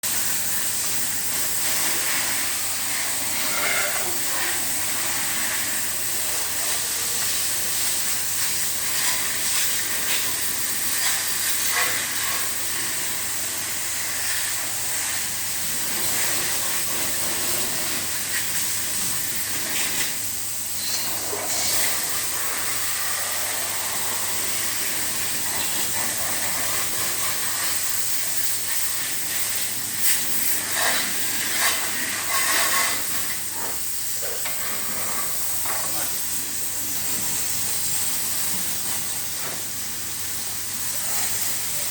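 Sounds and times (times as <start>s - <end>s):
high-pressure water jet hissing: 0.0s - 41.9s.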